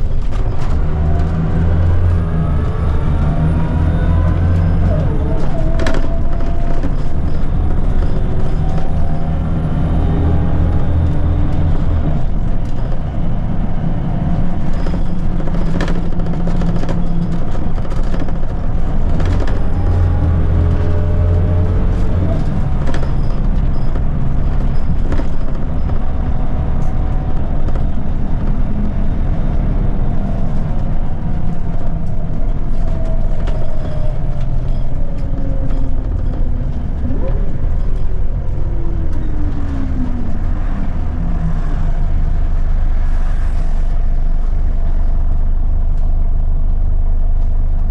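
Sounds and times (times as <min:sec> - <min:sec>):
bus diesel engine accelerating: 0:00.0 - 0:47.9.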